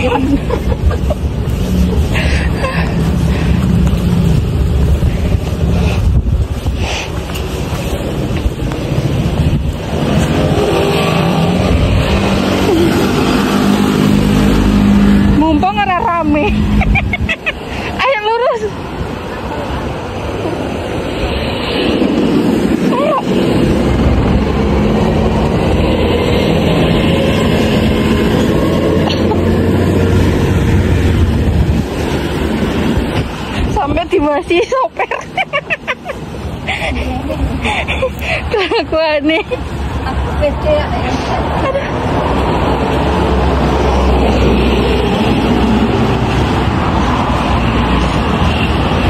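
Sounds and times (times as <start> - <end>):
loud vehicle rumble: 0.0 - 49.0
road hiss: 0.0 - 49.0.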